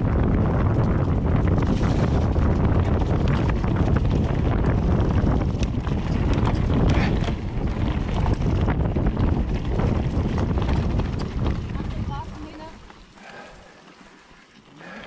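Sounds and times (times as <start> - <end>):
wind buffeting microphone: 0.0 - 13.1
mountain bike rattling on trail: 0.0 - 15.0.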